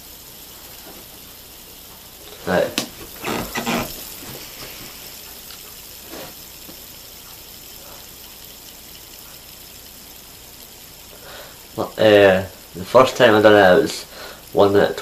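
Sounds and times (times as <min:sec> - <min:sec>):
fidget spinner whirring: 0:00.0 - 0:15.0.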